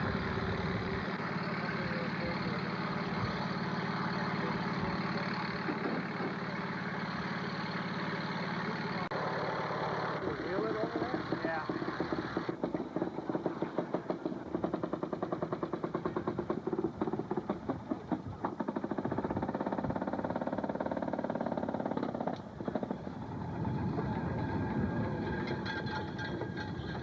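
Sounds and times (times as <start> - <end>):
two-stroke engine popping exhaust: 0.0 - 27.0.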